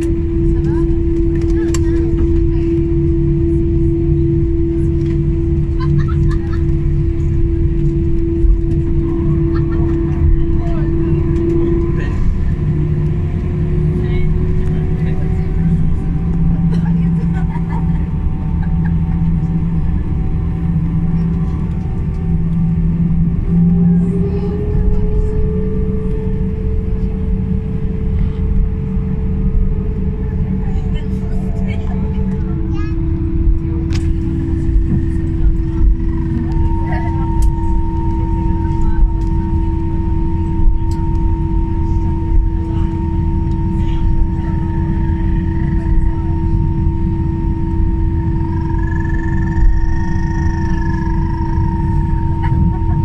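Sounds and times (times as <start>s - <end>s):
aircraft engines idling in cabin: 0.0s - 53.0s
whining tone: 0.0s - 53.0s.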